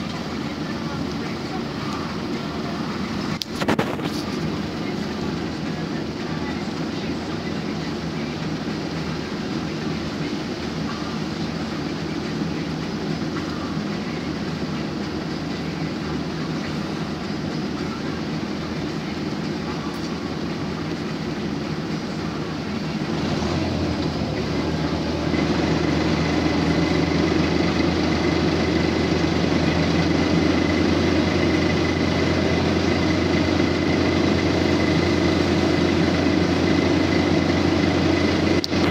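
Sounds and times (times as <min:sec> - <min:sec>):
bus engine and road noise: 0:00.0 - 0:38.9
low engine hum idling: 0:00.0 - 0:38.9.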